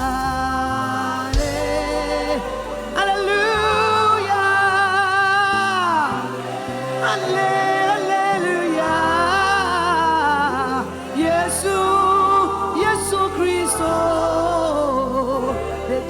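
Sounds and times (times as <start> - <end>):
instrumental backing: 0.0 - 16.0
voices singing held notes: 0.0 - 16.0.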